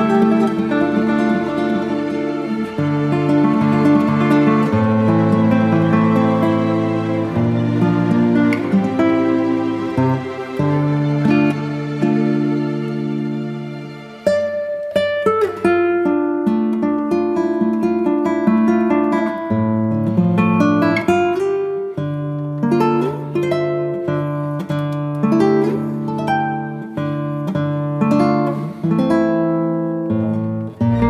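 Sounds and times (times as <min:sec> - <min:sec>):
acoustic guitar plucking: 0:00.0 - 0:31.0.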